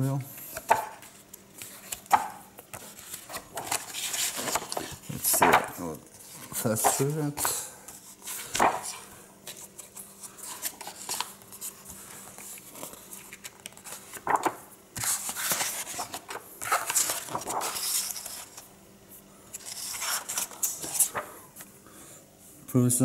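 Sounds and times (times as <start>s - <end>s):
book pages flipping: 0.4s - 18.7s, 19.5s - 21.7s.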